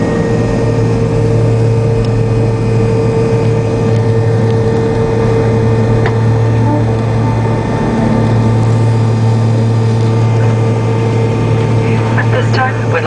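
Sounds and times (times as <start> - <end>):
jet engines droning and whining: 0.0 - 13.0.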